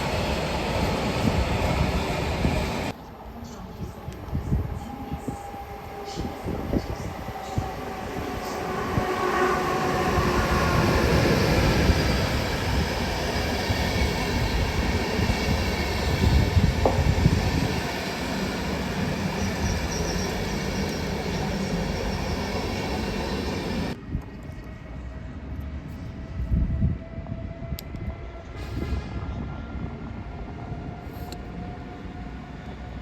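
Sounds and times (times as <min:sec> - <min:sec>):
electric train running on rails: 0:00.0 - 0:33.0.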